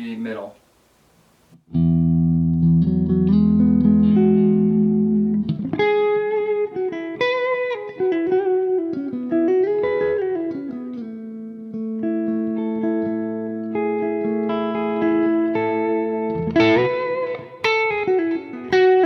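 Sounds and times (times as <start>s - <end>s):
electric guitar playing: 1.6s - 19.0s.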